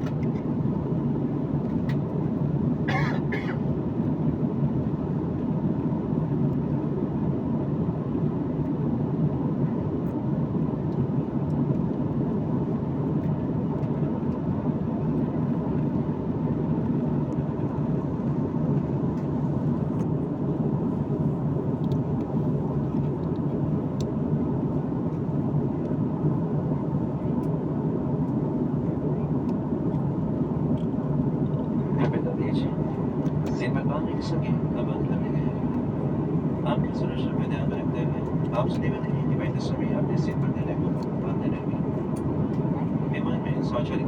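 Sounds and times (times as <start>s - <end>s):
airliner cabin engine rumble: 0.0s - 44.0s.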